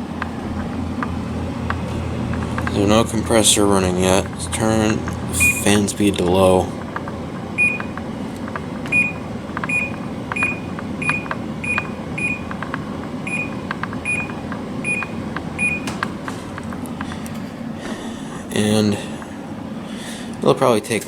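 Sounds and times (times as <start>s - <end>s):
fan humming: 0.0s - 21.0s.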